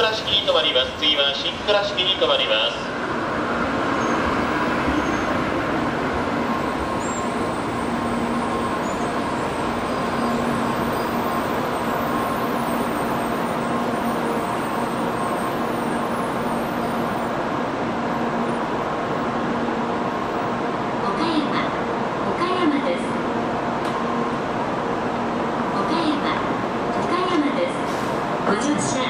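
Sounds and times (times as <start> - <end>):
train rolling and braking: 0.0 - 29.0.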